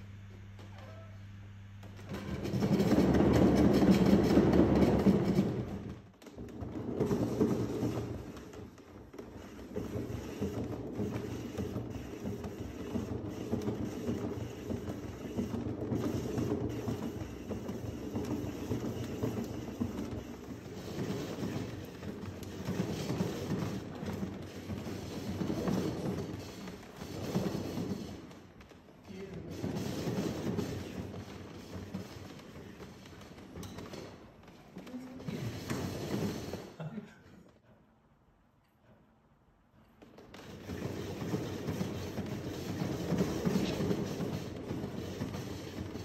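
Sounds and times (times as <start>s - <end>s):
exercise wheel rolling and clattering: 1.8s - 37.6s, 39.8s - 46.0s.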